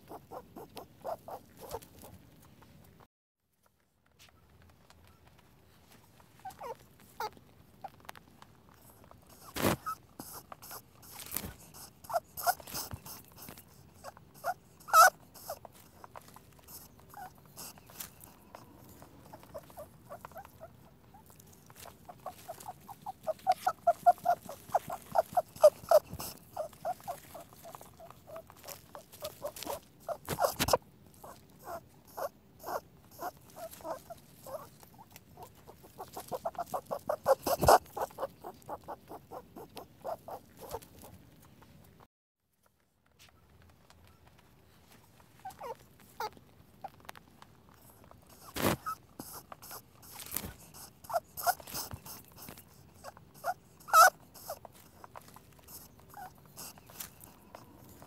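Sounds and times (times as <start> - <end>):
rabbit squeaking: 0.0 - 2.7, 6.2 - 42.0, 44.2 - 58.0.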